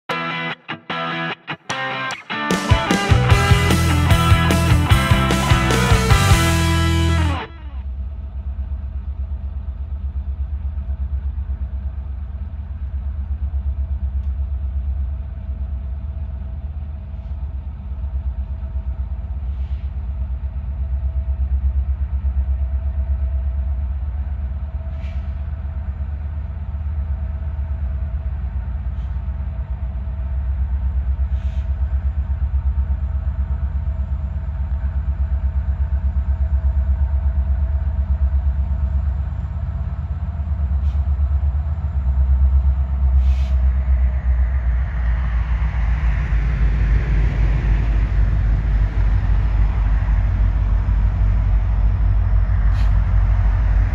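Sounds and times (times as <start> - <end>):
diesel locomotive rumble: 2.7 - 53.9.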